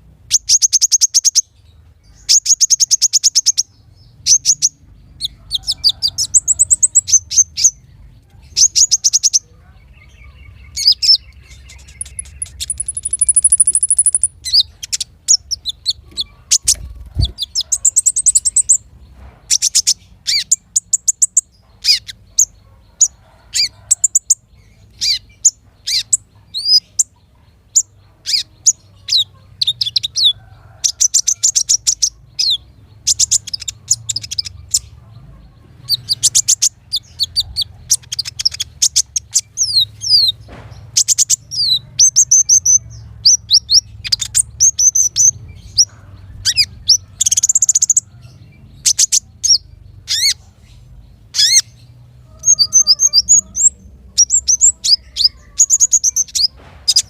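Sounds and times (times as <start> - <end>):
songbird chirping and trilling: 0.0 - 57.0.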